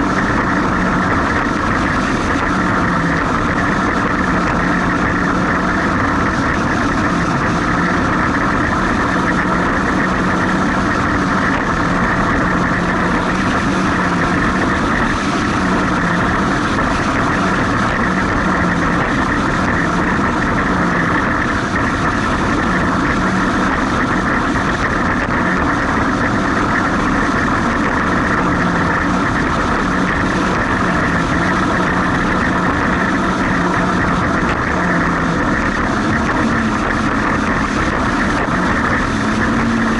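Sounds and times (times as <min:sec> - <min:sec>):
jet ski engine running: 0:00.0 - 0:39.9
rushing noise: 0:00.0 - 0:39.9.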